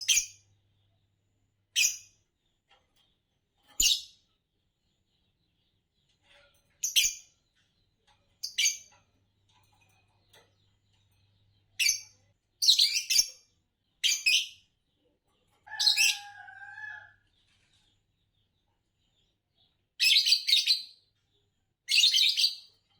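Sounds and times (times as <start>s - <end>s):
lovebirds chirping: 3.8s - 14.9s, 15.6s - 22.9s.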